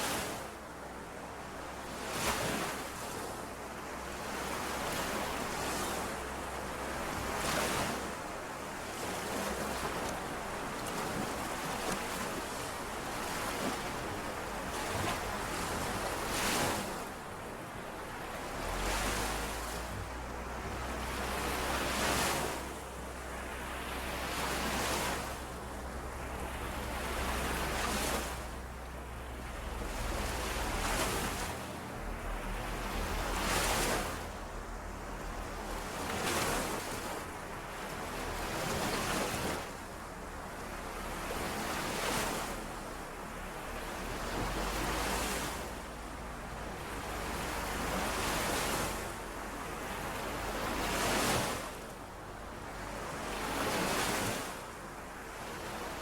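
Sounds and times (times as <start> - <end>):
lake waves washing on shore: 0.0 - 56.0.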